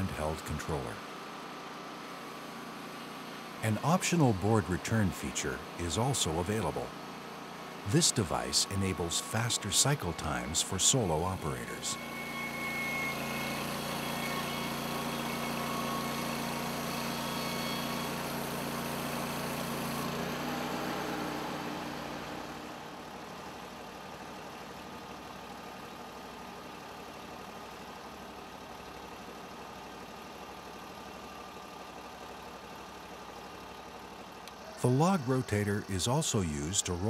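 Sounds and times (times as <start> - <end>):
band sawmill engine hum: 0.0 - 37.0.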